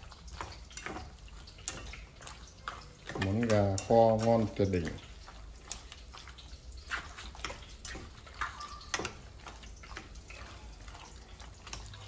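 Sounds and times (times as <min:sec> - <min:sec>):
wet squelches of chicken: 0:00.0 - 0:12.0.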